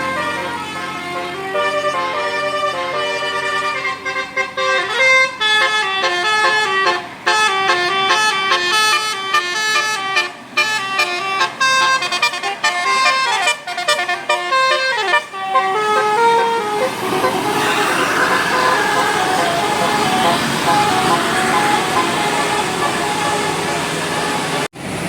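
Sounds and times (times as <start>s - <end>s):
musical bus horn playing tune: 0.0s - 24.7s.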